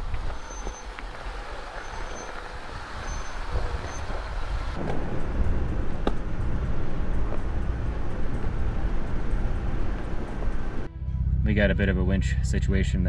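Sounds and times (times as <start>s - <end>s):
off-road vehicle engine rumble: 0.0s - 13.0s.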